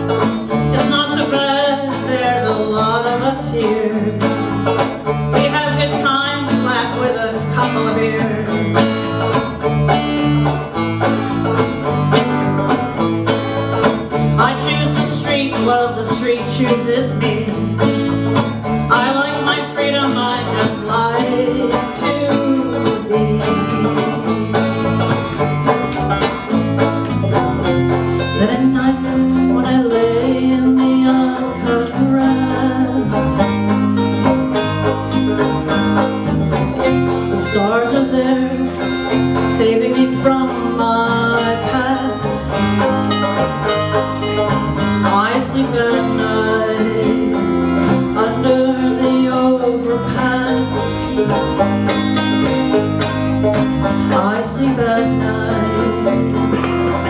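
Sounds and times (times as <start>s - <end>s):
electric bass line: 0.0s - 57.0s
electric guitar: 0.0s - 57.0s
picked banjo: 0.0s - 57.0s.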